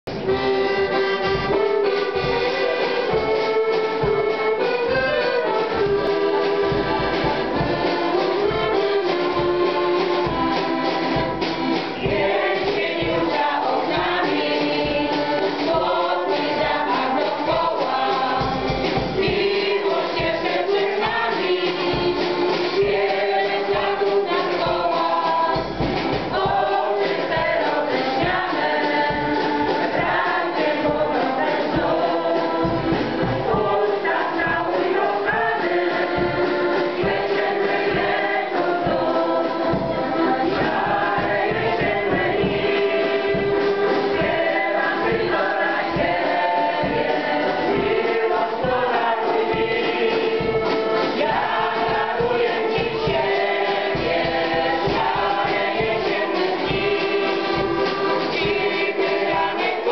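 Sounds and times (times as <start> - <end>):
choir singing folk song: 0.1 - 59.9.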